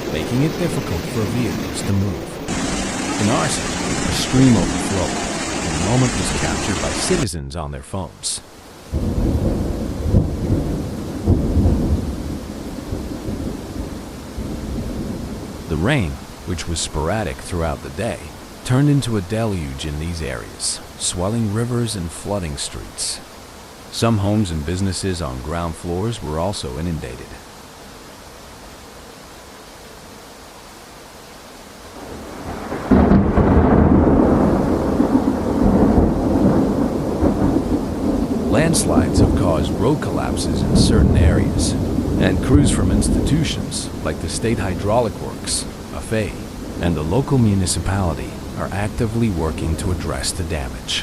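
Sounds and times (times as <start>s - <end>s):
floodwater rushing: 0.0s - 9.1s, 15.2s - 51.0s
faint steady hiss: 0.0s - 51.0s.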